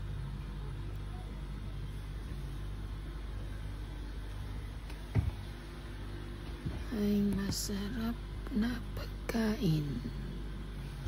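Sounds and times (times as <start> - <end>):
freezer humming: 0.0 - 11.0.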